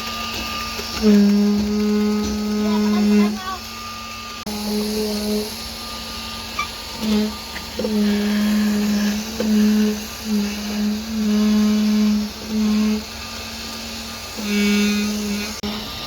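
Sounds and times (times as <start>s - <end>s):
excavator hydraulics whining: 0.0s - 16.0s
machine humming: 0.0s - 16.0s.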